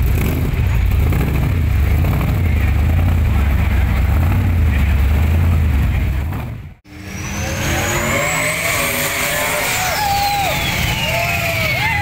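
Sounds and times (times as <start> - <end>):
engine deep rumble: 0.0 - 12.0
engine revving with whine: 0.0 - 12.0.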